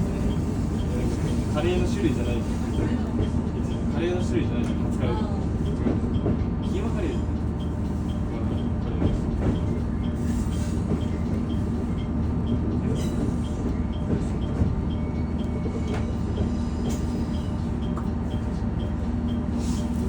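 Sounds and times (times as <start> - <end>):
diesel railcar running: 0.0 - 20.0.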